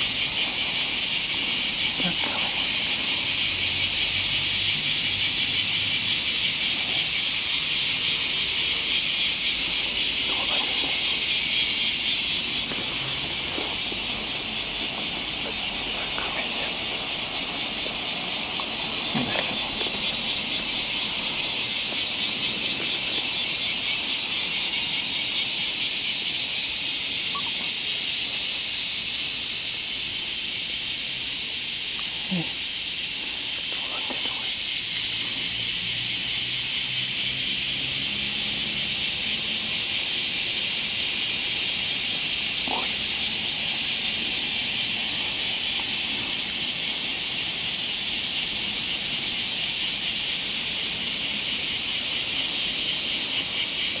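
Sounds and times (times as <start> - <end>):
insects chorus: 0.0 - 54.0.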